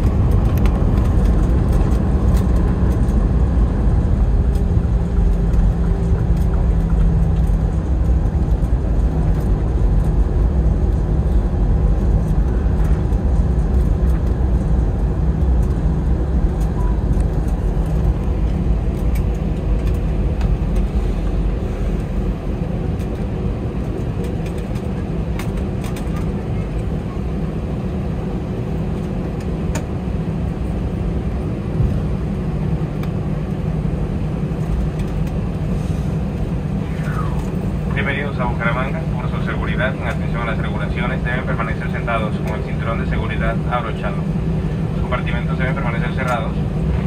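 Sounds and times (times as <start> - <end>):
aircraft engines and airflow rumble: 0.0 - 47.0.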